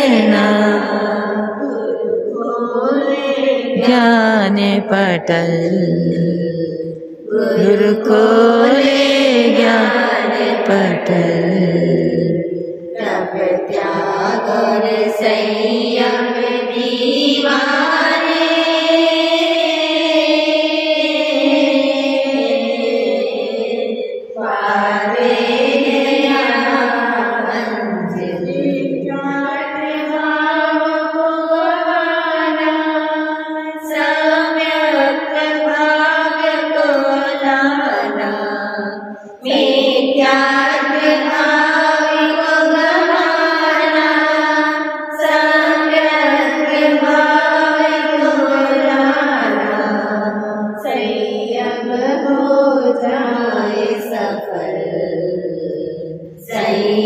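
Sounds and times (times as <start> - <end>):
person singing devotional song: 0.0 - 57.0.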